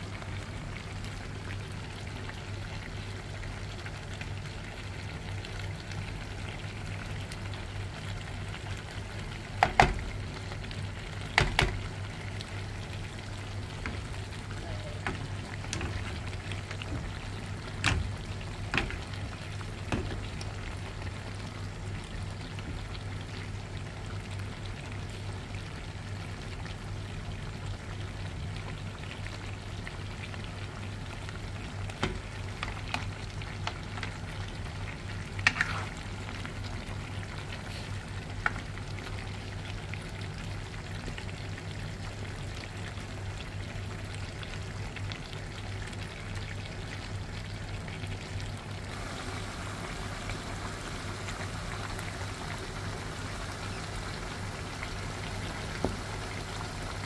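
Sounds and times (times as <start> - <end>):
meat sizzling in a pan: 0.2 - 26.2, 26.8 - 57.0.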